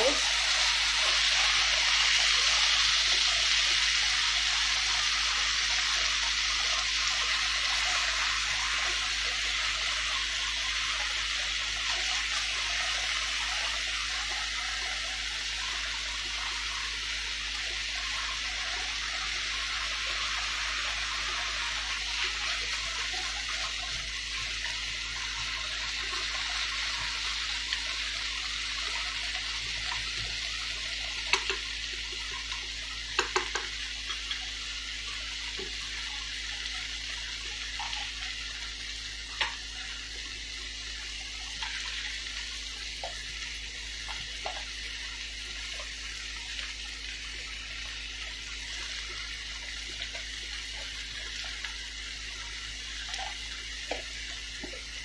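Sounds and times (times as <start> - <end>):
food sizzling in frying pan: 0.0 - 55.0.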